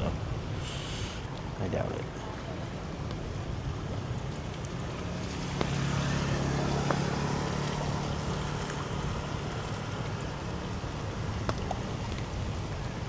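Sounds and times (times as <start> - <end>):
low engine hum: 0.0 - 13.0
wind buffeting microphone: 0.0 - 13.0.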